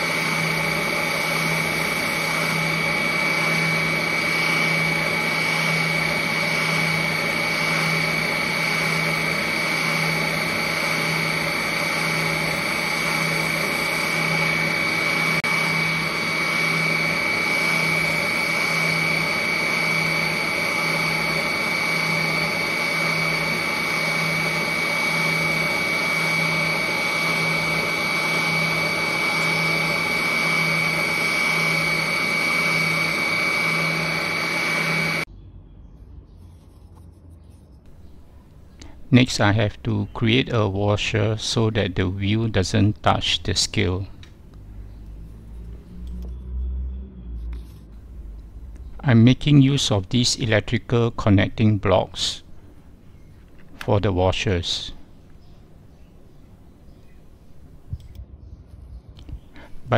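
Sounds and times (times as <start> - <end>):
spindle sander running: 0.0 - 35.3, 37.9 - 46.3, 47.5 - 58.0, 59.3 - 59.9.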